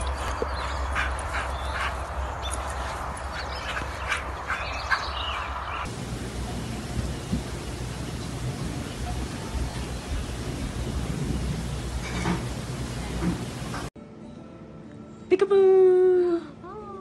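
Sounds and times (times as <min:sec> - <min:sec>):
wind rumbling on microphone: 0:00.0 - 0:13.9.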